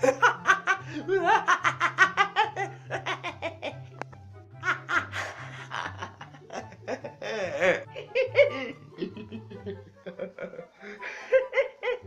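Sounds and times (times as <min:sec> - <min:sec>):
man laughing loudly: 0:00.0 - 0:04.0, 0:04.6 - 0:12.0
background music with bass line: 0:00.0 - 0:10.5.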